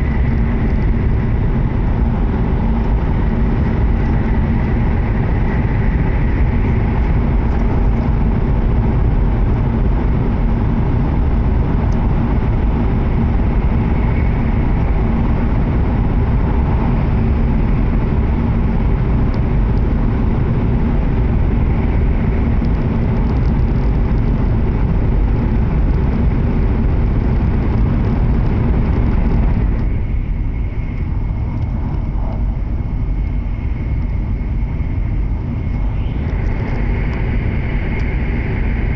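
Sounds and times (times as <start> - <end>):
faint steady whine: 0.0 - 38.9
train wheels and air rumble: 0.0 - 38.9.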